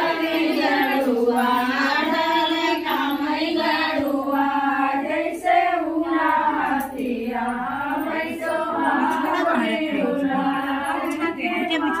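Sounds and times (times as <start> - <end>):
women singing together: 0.0 - 12.0.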